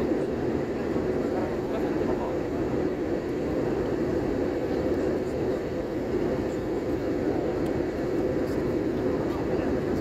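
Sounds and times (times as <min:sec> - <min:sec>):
jet airliner cabin noise: 0:00.0 - 0:10.0.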